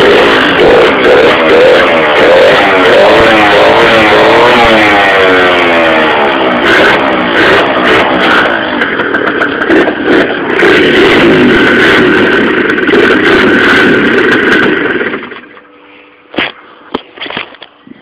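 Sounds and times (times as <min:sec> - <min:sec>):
scooter engine running loud: 0:00.0 - 0:18.0.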